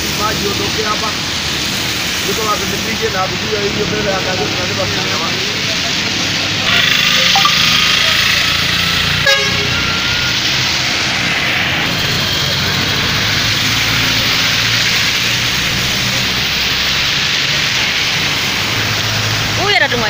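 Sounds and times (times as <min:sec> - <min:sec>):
car engines running: 0:00.0 - 0:20.0.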